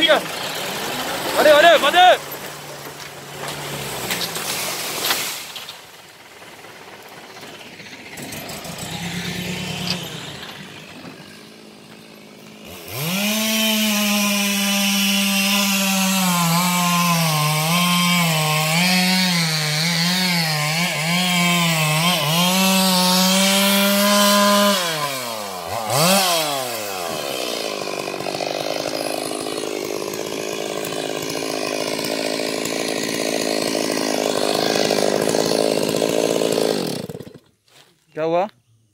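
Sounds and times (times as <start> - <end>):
chainsaw sawing wood: 0.0 - 37.9.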